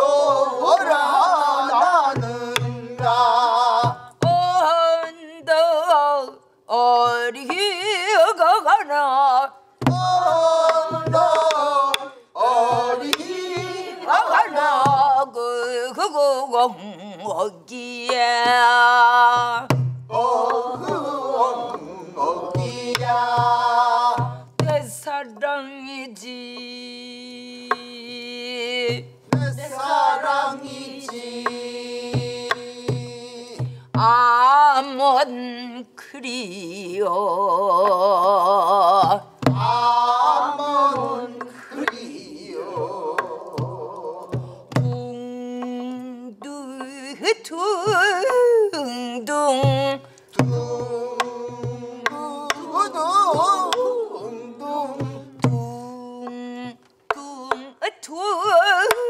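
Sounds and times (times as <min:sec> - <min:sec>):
group singing along: 0:00.0 - 0:05.0, 0:06.8 - 0:35.2, 0:37.0 - 0:46.1, 0:47.1 - 0:59.0
woman singing folk song: 0:00.7 - 0:21.8, 0:22.5 - 0:42.1, 0:42.8 - 0:59.0.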